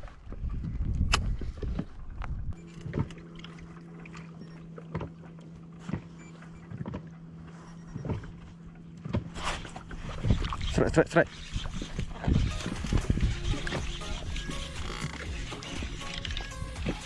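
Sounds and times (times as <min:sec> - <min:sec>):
steady low hum: 0:02.4 - 0:17.0.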